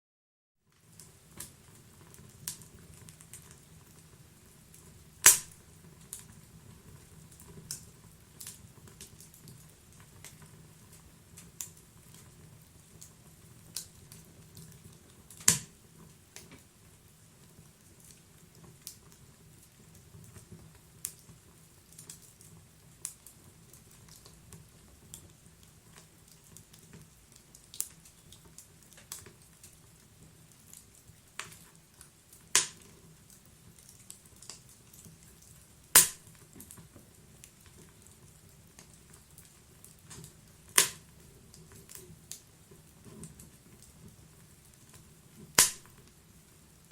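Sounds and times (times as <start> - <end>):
fire rumbling in a stove: 0.6 - 46.9
wood crackling and popping: 0.7 - 46.9.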